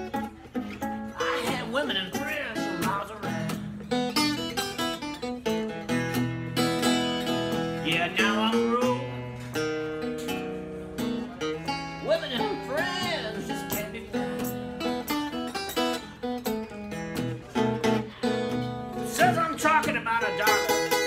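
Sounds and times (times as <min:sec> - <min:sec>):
fingerpicked acoustic guitar: 0:00.0 - 0:21.0.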